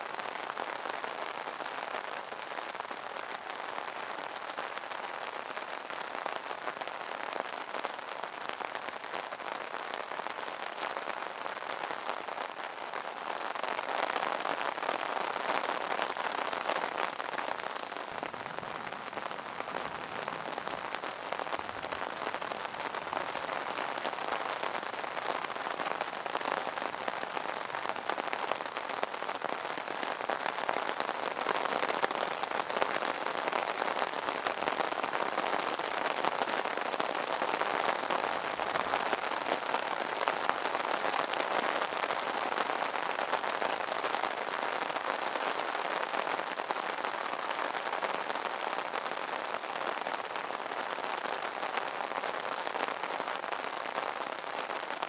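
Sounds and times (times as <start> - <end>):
rain pattering on umbrella: 0.0 - 55.0.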